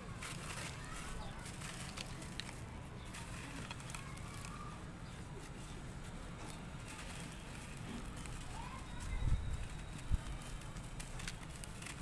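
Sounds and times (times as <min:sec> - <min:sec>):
dry dirt crumbling into bowl: 0:00.0 - 0:12.0.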